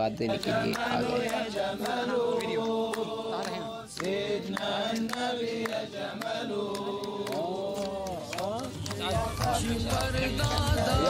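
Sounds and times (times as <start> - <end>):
men chanting together: 0.2 - 11.0
steady handclaps: 0.3 - 11.0.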